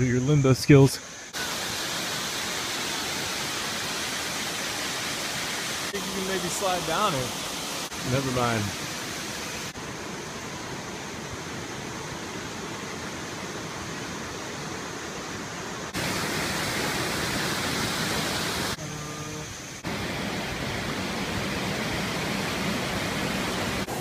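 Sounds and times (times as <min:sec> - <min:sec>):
waterfall rushing over rocks: 0:01.4 - 0:24.0.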